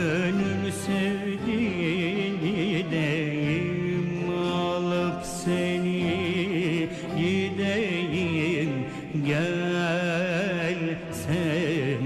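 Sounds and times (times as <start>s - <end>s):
cello: 0.0s - 12.0s
violin: 0.0s - 12.0s.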